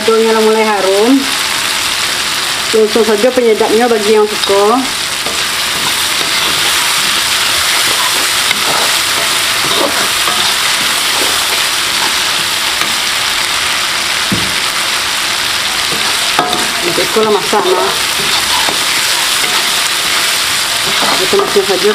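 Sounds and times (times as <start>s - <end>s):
chili paste sizzling in oil: 0.0s - 21.9s.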